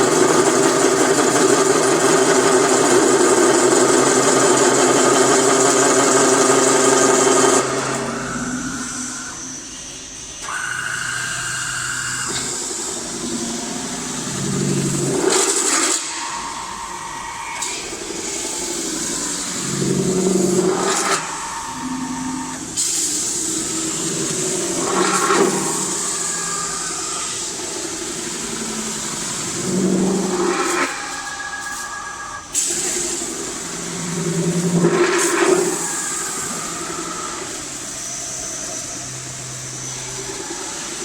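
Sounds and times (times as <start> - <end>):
metal spinning machine whining: 0.0 - 41.0.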